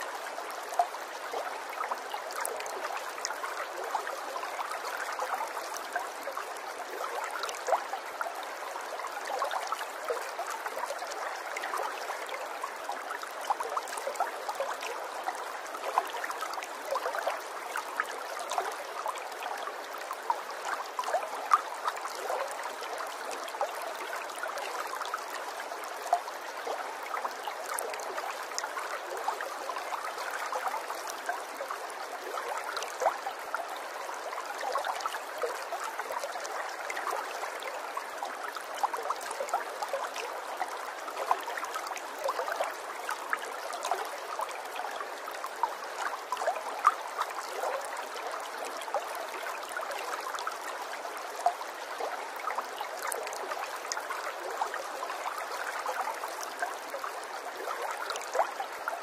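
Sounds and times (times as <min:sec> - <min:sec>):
creek babbling over stones: 0:00.0 - 0:59.0.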